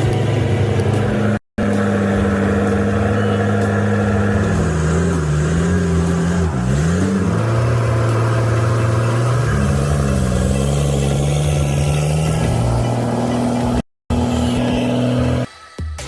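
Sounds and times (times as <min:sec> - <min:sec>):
heavy vehicle engine running: 0:00.0 - 0:15.7.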